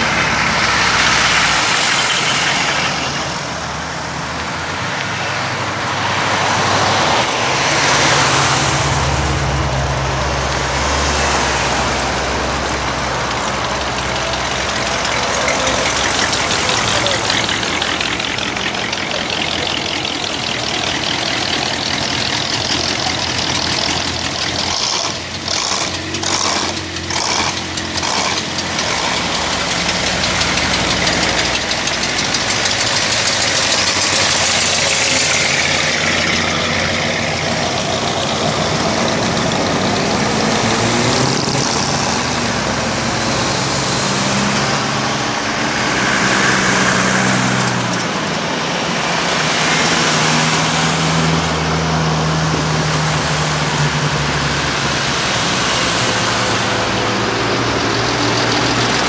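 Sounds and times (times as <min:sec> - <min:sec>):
cars driving past: 0:00.0 - 0:59.0
tyres rolling on asphalt: 0:00.0 - 0:59.0.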